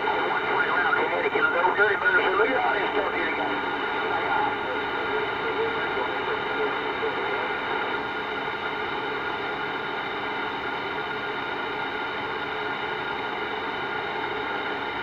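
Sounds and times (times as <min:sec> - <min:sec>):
radio static hiss: 0:00.0 - 0:14.9.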